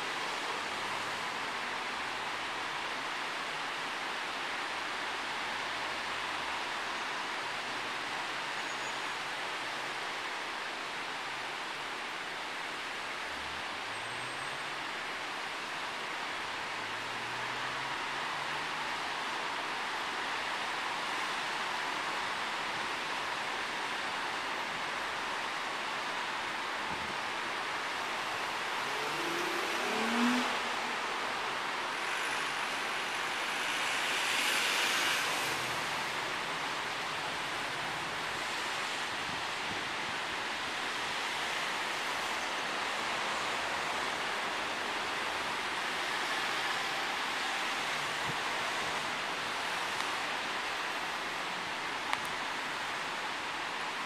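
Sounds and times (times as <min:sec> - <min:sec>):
road traffic hiss: 0:00.0 - 0:54.0.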